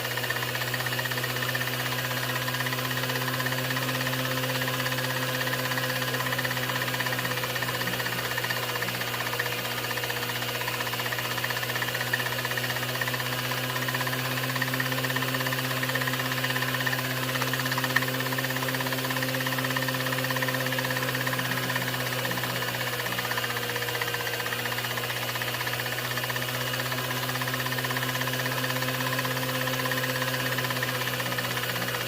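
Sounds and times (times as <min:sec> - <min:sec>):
film projector hum and whirr: 0:00.0 - 0:32.0.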